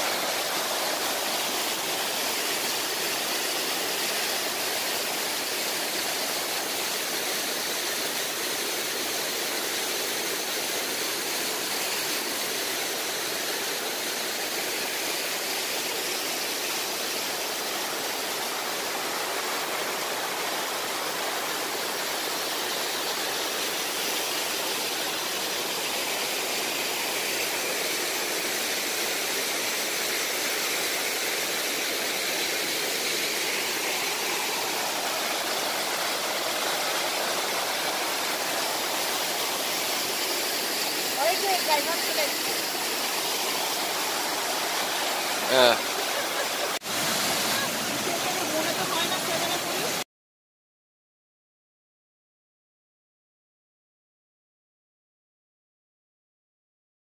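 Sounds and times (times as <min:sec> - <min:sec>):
waterfall rushing over rock: 0:00.0 - 0:50.0.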